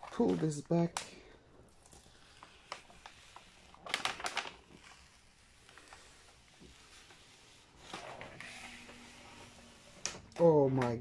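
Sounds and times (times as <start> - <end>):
paper crinkling as it is peeled: 1.7 - 10.8.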